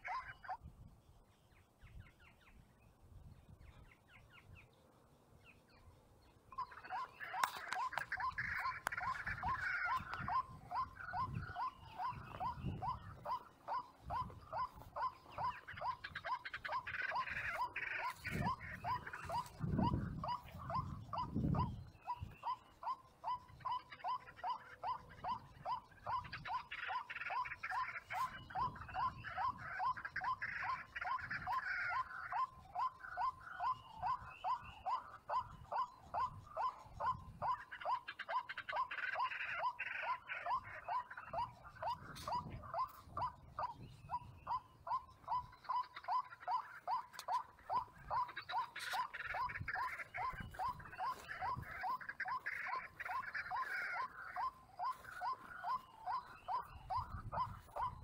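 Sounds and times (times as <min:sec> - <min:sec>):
bird croaking calls: 0:00.0 - 0:00.7, 0:05.5 - 0:58.0.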